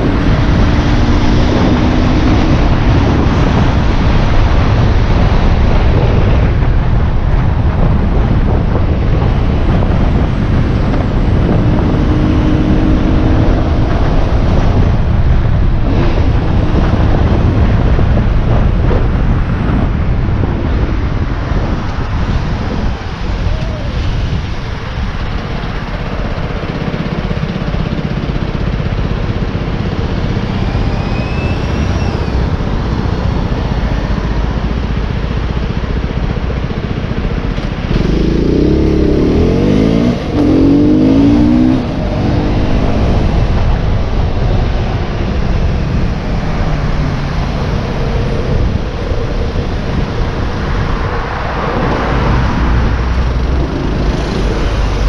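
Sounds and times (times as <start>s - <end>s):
motorcycle engine revving: 0.0s - 55.0s
wind on microphone: 0.0s - 55.0s.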